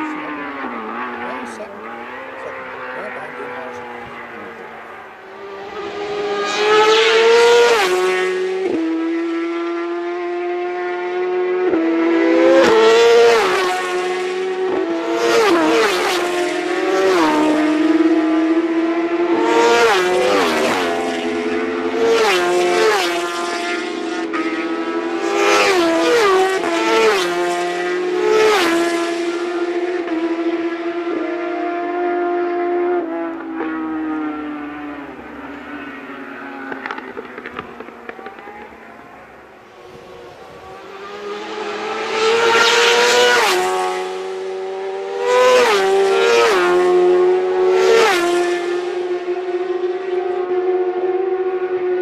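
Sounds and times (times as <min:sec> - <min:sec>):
racing motorcycles passing: 0:00.0 - 0:52.0.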